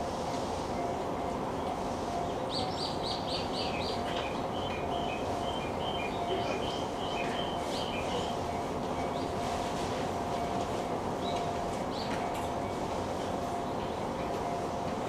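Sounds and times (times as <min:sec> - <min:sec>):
electric train hum: 0:00.0 - 0:15.0.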